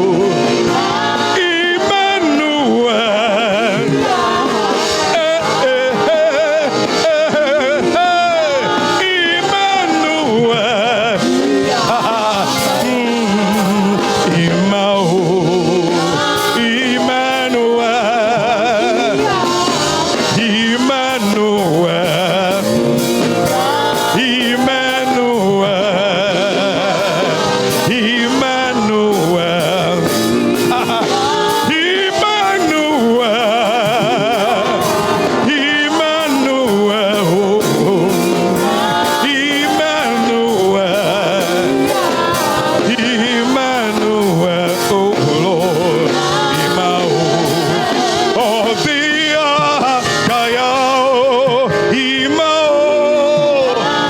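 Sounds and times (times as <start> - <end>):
gospel singing with accompaniment: 0.0 - 54.0.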